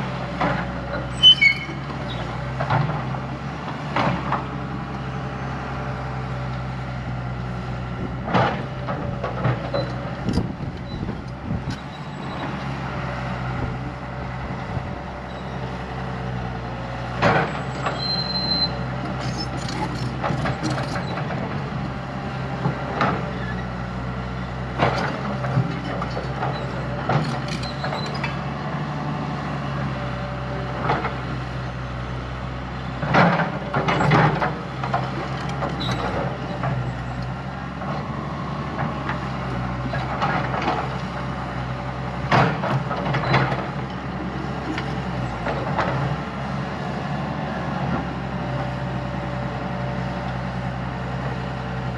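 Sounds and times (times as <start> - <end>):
heavy machinery diesel engine running: 0.0 - 51.9.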